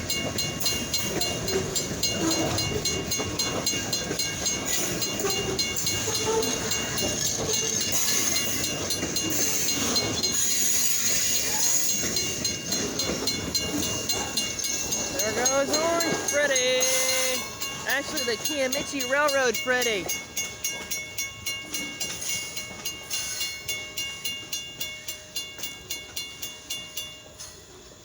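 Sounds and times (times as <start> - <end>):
mechanical crossing bell ringing: 0.0 - 27.7
freight train wheels clacking on rails: 0.0 - 28.0.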